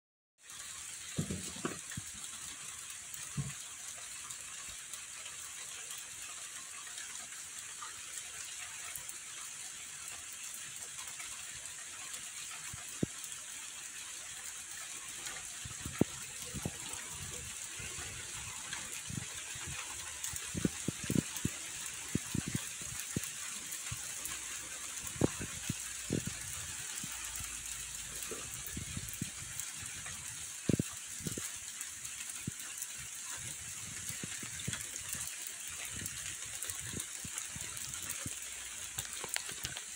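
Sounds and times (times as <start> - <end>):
light rain hissing: 0.4 - 39.9.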